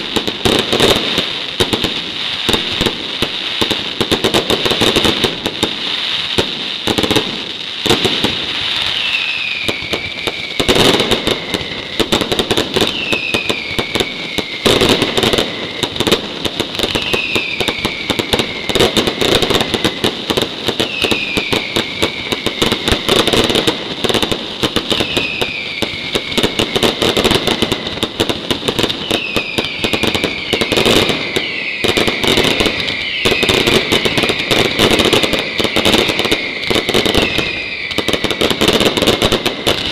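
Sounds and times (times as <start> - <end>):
falling firework whistle: 0.0 - 39.9
firecrackers crackling: 0.0 - 39.9.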